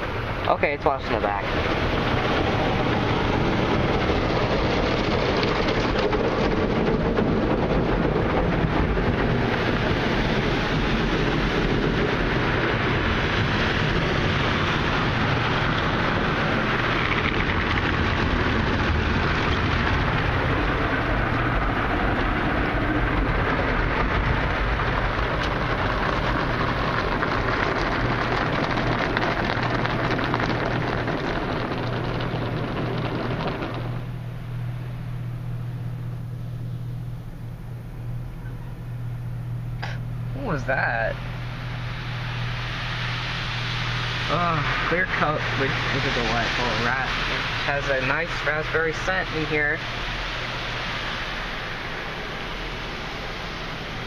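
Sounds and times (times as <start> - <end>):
water spraying: 0.0 - 35.0, 39.8 - 54.0.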